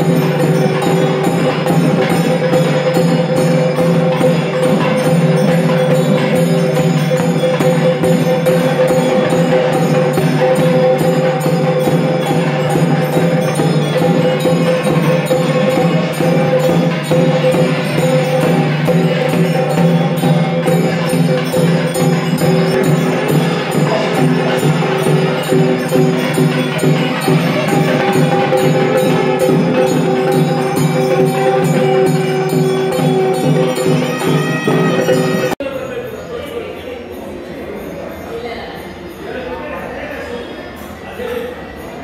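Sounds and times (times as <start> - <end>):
jingling metal percussion: 0.0 - 42.0.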